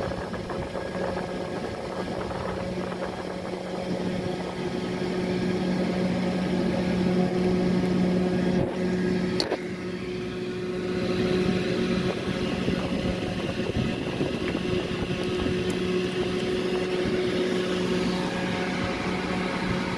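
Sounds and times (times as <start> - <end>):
mechanical hum: 0.0 - 19.9.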